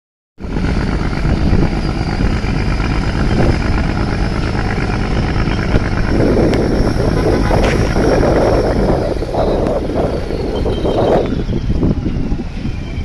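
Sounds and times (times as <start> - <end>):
rushing water noise: 0.4 - 11.7
boat engine running: 0.4 - 13.0.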